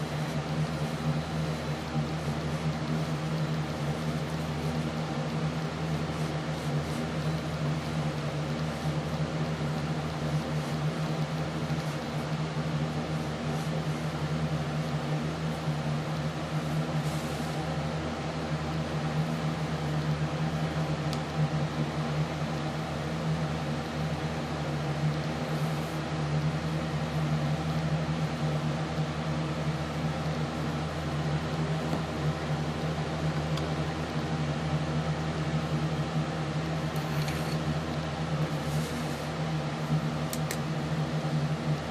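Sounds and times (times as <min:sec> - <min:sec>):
steady machine hum: 0:00.0 - 0:41.9.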